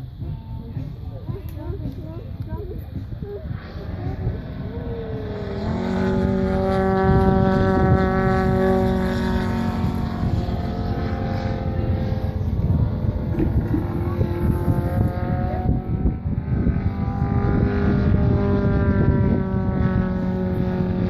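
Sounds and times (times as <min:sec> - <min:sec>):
model plane engine droning: 0:00.0 - 0:21.0
wind buffeting microphone: 0:00.0 - 0:21.0.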